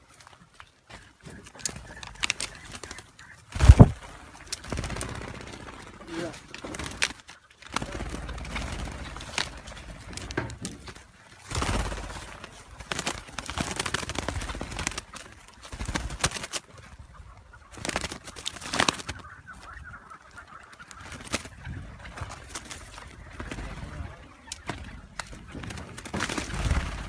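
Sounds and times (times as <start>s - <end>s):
wings flapping: 0.1s - 27.0s.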